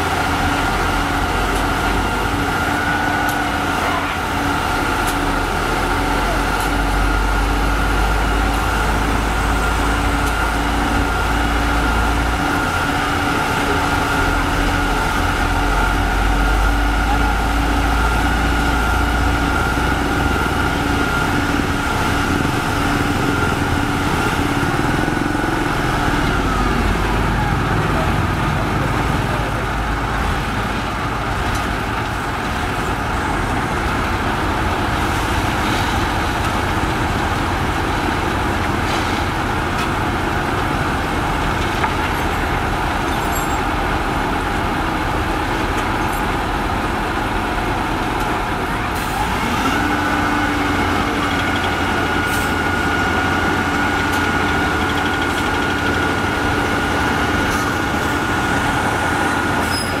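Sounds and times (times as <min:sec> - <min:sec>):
heavy diesel machinery running: 0:00.0 - 1:00.0.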